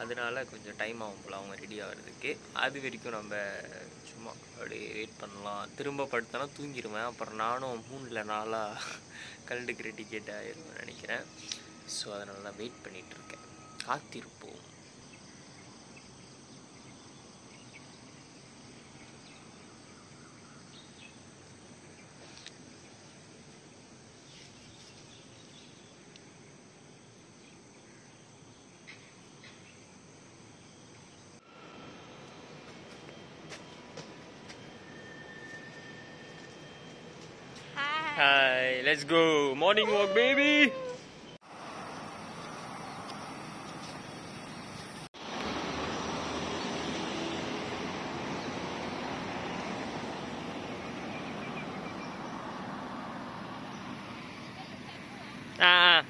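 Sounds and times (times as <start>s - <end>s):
insects hissing: 0.0s - 56.0s
loud steady outdoor noise: 0.0s - 56.0s
road traffic: 0.0s - 56.0s
wind: 0.0s - 56.0s.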